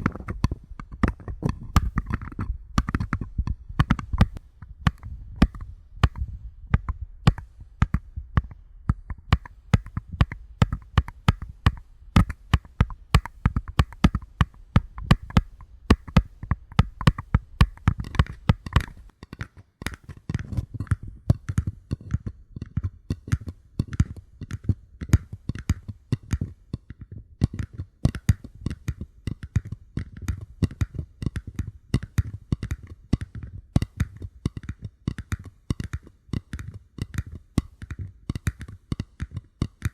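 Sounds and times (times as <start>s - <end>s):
fingers tapping paper cups: 0.0s - 39.9s.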